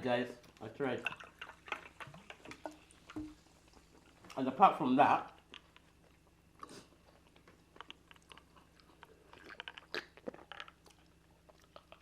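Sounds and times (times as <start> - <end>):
person chewing food: 0.4 - 4.4, 5.3 - 12.0.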